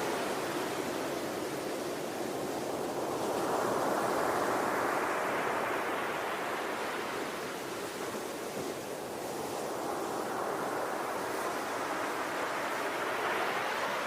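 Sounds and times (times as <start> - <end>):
ocean waves on shore: 0.0 - 14.0.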